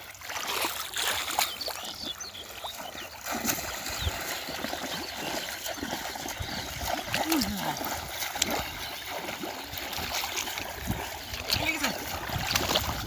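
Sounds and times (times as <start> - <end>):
water splashing around wading legs: 0.0 - 13.0.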